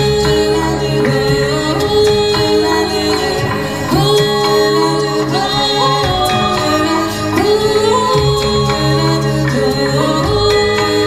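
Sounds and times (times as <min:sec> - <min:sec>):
guitar accompaniment: 0:00.0 - 0:11.0
vocal ensemble singing in harmony: 0:00.0 - 0:11.0.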